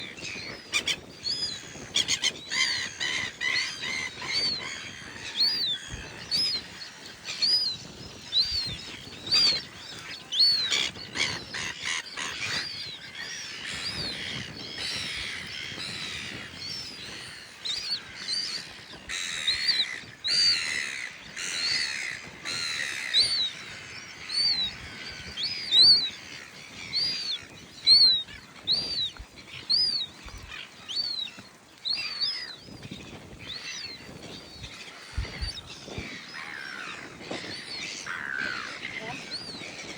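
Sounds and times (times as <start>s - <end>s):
chatter of bird calls: 0.0s - 39.9s.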